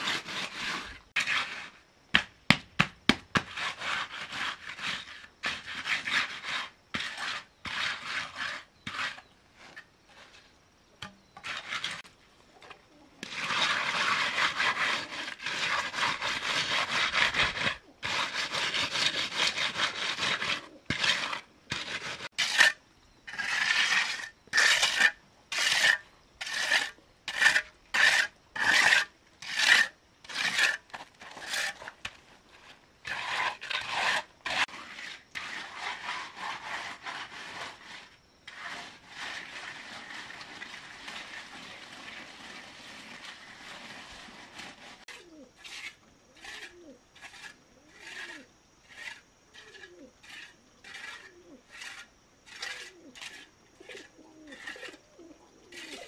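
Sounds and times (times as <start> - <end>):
hand float rubbing wet concrete: 0.0 - 10.5, 11.1 - 56.0.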